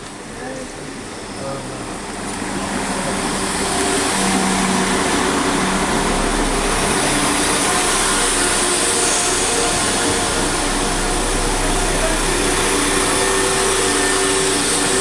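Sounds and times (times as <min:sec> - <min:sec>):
vehicle engine running loudly: 0:02.4 - 0:15.0.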